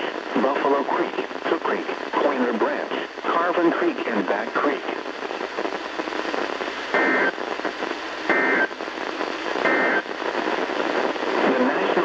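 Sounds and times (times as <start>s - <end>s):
radio hiss: 0.0s - 12.0s.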